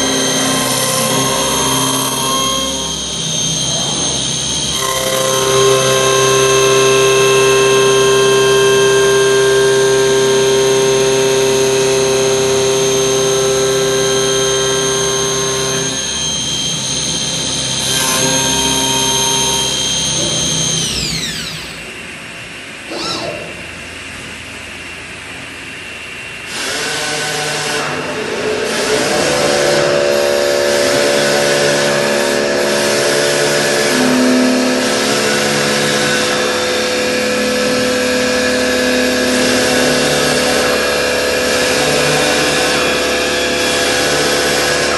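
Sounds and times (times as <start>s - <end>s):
wood lathe whining: 0.0s - 21.9s, 26.5s - 44.9s.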